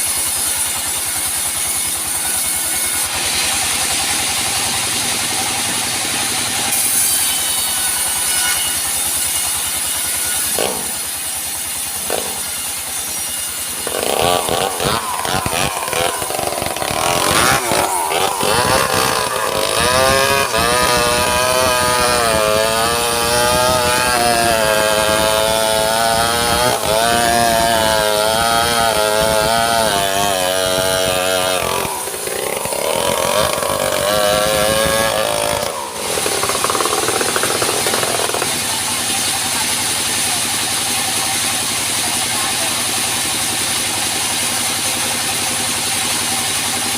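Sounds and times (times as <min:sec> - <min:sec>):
saw blade whining through wood: 0:00.0 - 0:46.9
sawmill machine running: 0:00.0 - 0:46.9.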